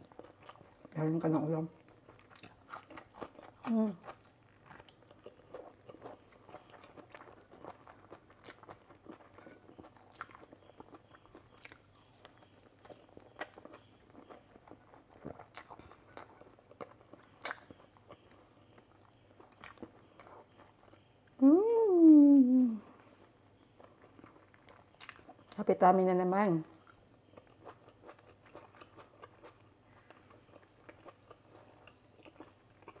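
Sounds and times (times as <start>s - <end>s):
person chewing: 0.0s - 0.9s, 1.8s - 21.1s, 23.0s - 25.6s, 26.7s - 33.0s.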